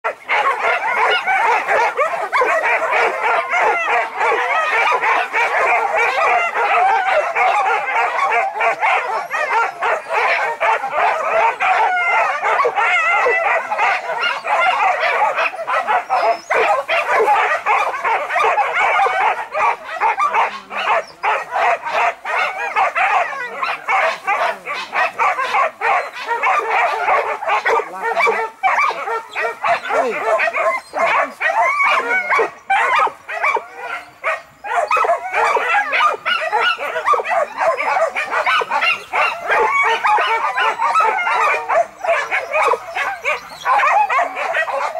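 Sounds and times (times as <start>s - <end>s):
hunting dogs yelping and baying: 0.0s - 44.9s.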